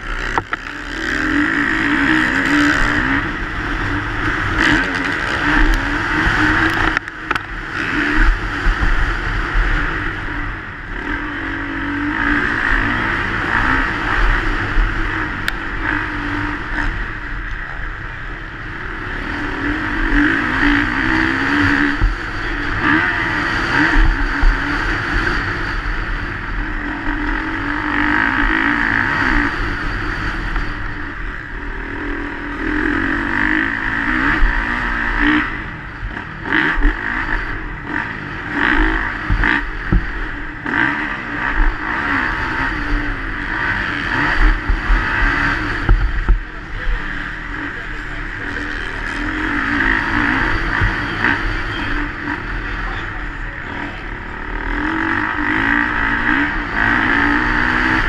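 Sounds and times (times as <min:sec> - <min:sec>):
knocks and clatter over rough track: 0:00.0 - 0:58.0
motocross bike engine revving: 0:00.0 - 0:58.0.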